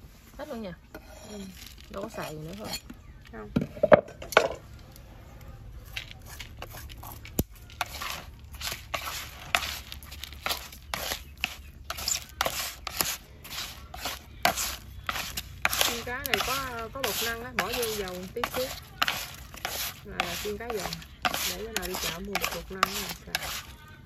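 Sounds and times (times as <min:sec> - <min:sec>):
chopsticks scraping and rustling: 0:00.8 - 0:03.1, 0:05.8 - 0:24.0.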